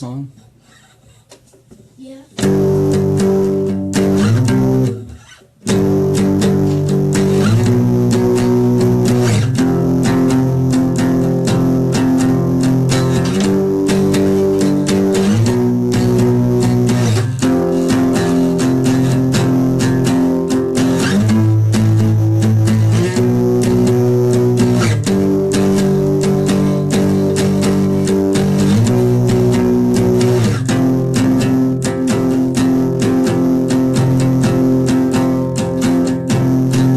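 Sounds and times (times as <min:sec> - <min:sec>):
guitar band music: 0:02.3 - 0:36.9.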